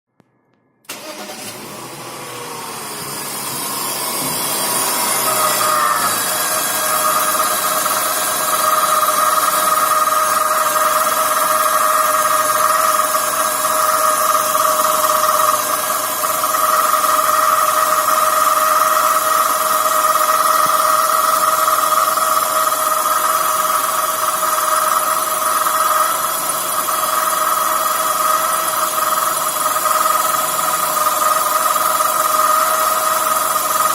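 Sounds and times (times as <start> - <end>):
car engine running: 0.9 - 33.9
water pump whine: 0.9 - 33.9.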